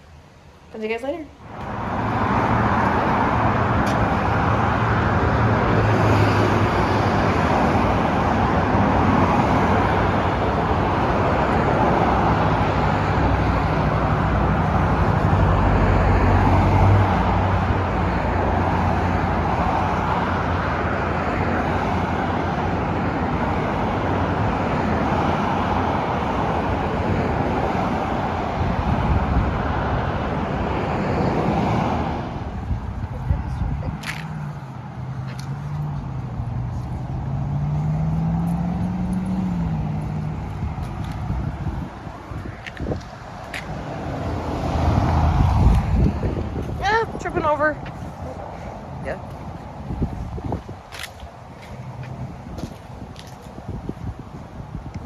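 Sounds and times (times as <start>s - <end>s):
road traffic rushing: 0.0s - 55.0s.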